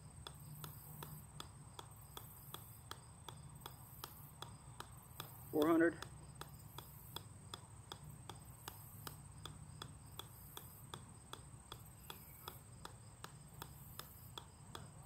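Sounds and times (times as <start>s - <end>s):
golf ball clicking on metal: 0.1s - 15.0s.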